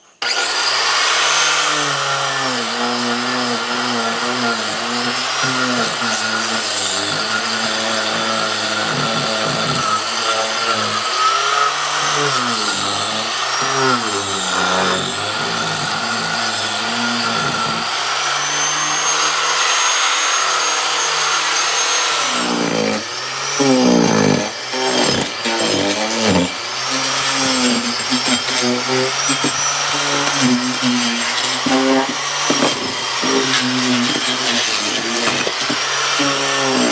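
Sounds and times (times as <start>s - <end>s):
power tool cutting log: 0.0s - 36.9s.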